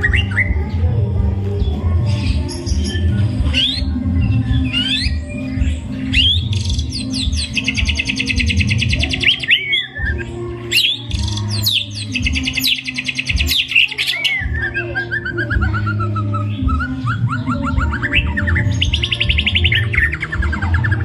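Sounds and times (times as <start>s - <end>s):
songbird singing trilled phrases: 2.1s - 21.0s.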